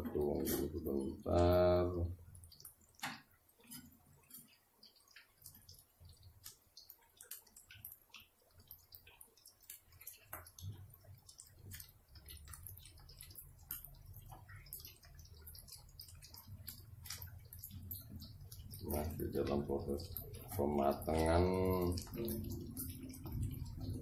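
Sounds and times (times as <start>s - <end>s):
fritters frying in oil: 0.0s - 24.0s.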